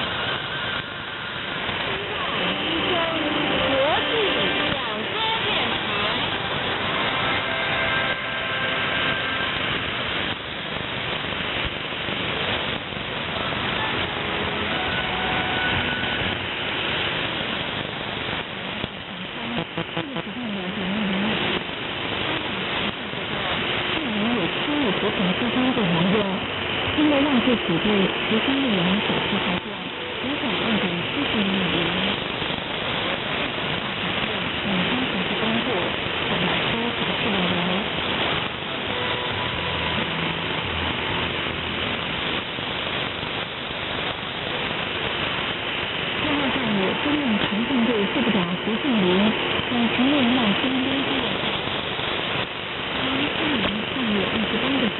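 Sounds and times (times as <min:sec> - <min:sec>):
low hum: 0:00.0 - 0:54.9
shortwave radio hiss: 0:00.0 - 0:54.9.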